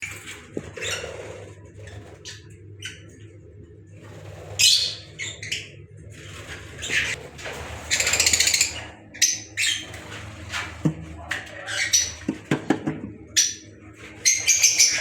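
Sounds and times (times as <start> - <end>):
lovebirds chirping and squawking: 0.0 - 15.0.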